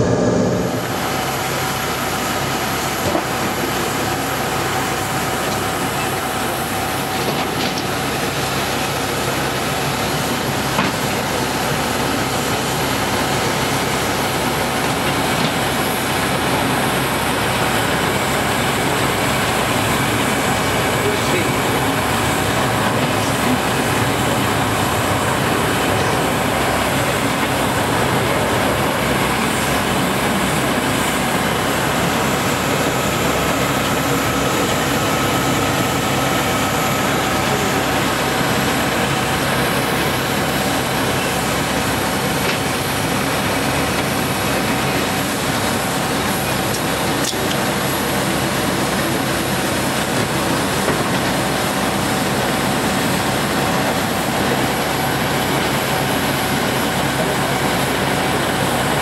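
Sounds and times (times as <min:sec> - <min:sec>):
jet aircraft rush and whine: 0:00.0 - 0:59.0.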